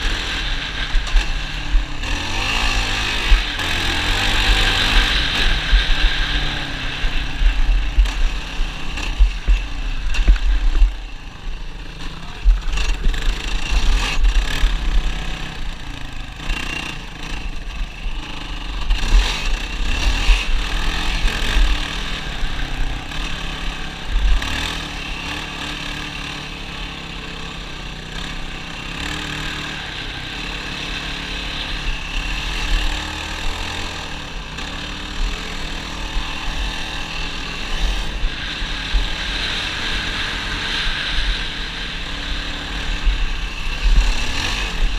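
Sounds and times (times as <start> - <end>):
atv engine running: 0.0 - 44.9.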